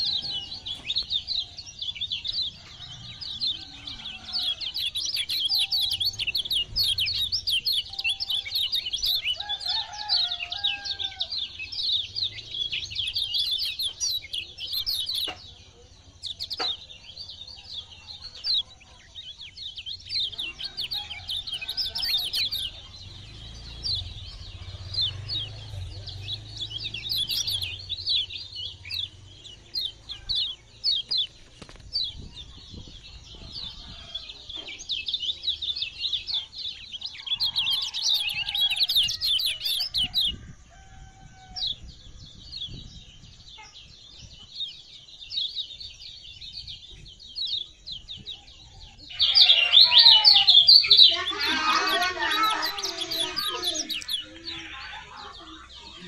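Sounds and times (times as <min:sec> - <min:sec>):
bird singing high chirps: 0:00.0 - 0:40.8, 0:41.4 - 0:56.0.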